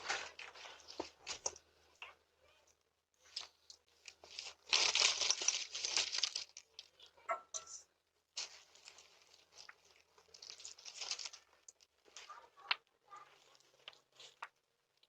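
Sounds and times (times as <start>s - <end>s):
plastic candy wrappers crinkling: 0.0s - 1.7s, 3.2s - 7.2s, 8.4s - 15.0s.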